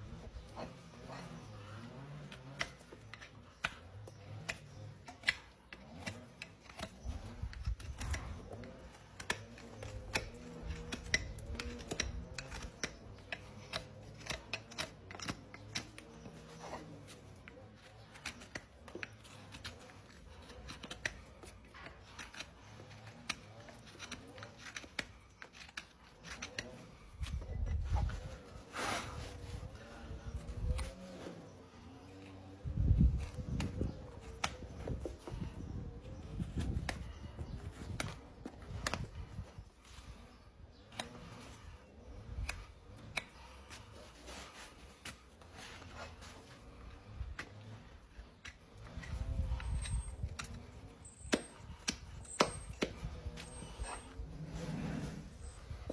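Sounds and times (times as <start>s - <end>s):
tools scraping horse hoof: 0.0s - 55.9s.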